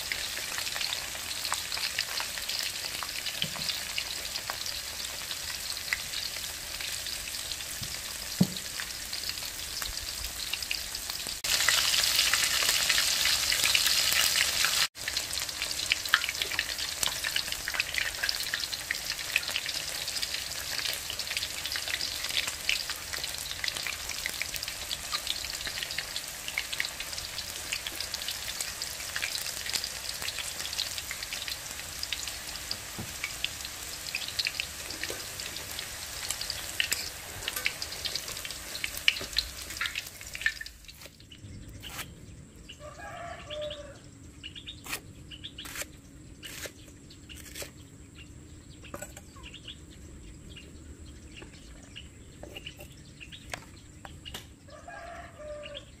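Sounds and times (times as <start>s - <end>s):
chicken deep-frying in oil: 0.0s - 42.0s, 42.8s - 44.0s, 51.3s - 55.9s.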